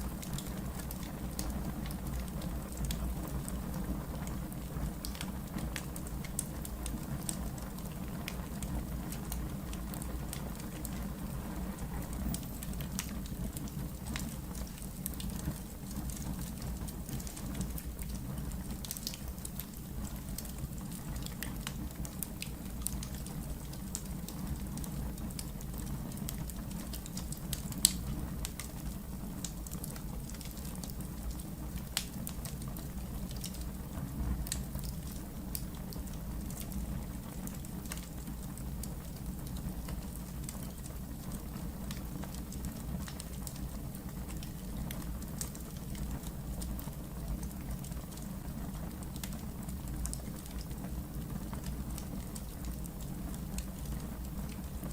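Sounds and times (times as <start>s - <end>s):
fire crackles and pops: 0.0s - 54.9s
fire low rumble: 0.0s - 54.9s.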